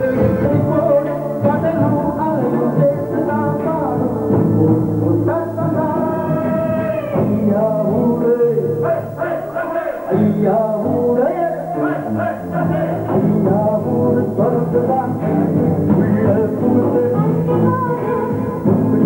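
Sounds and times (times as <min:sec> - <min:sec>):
instrumental backing: 0:00.0 - 0:19.0
person singing: 0:00.0 - 0:19.0.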